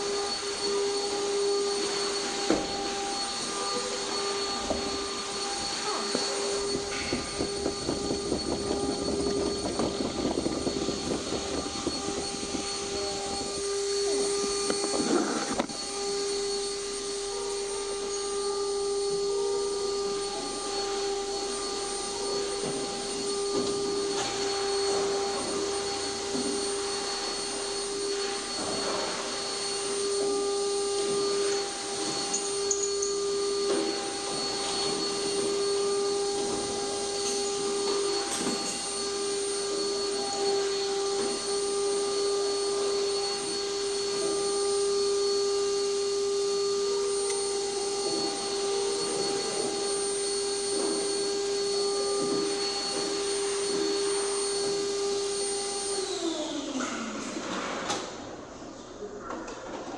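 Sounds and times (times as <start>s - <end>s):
hydraulic pump motor humming: 0.0s - 56.8s.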